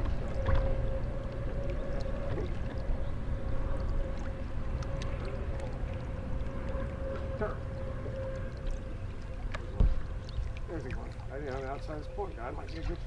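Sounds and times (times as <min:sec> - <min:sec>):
electric trolling motor whine: 0:00.0 - 0:12.9
low rumble of wind and water: 0:00.0 - 0:13.0.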